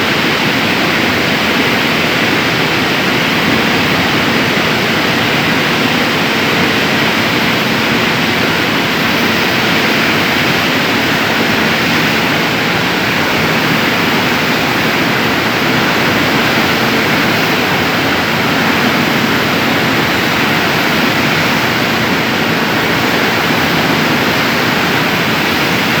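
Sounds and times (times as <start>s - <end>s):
industrial furnace roar: 0.0s - 26.0s.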